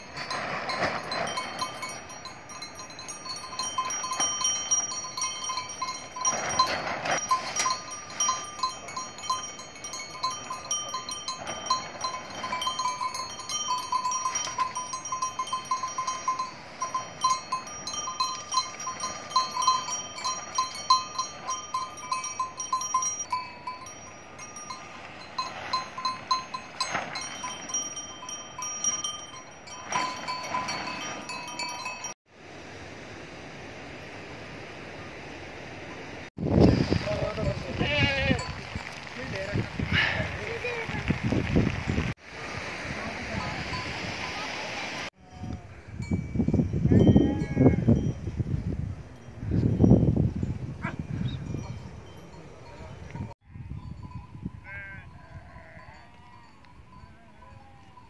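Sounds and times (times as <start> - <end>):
sheep bells jingling: 0.0 - 32.2, 36.9 - 42.2, 43.2 - 58.0.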